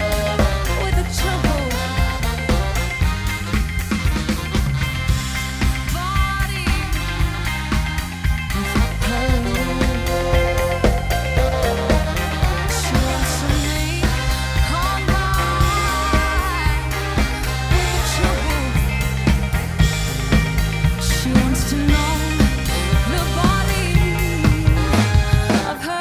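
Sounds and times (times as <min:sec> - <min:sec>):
sustained bass line: 0:00.0 - 0:25.8
drums on steady beat: 0:00.0 - 0:25.9
pop-rock song: 0:00.0 - 0:26.0.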